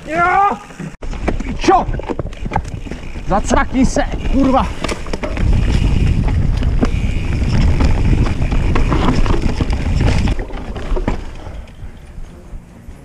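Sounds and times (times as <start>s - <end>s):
tyres rolling over rock: 0.0s - 11.7s
bike rattling over bumps: 0.0s - 13.0s
wind rush on microphone: 1.0s - 13.0s.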